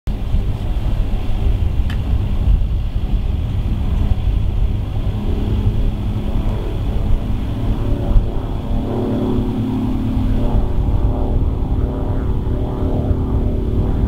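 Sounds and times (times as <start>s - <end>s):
low rumble: 0.1s - 14.0s
propeller plane drone: 0.1s - 14.0s.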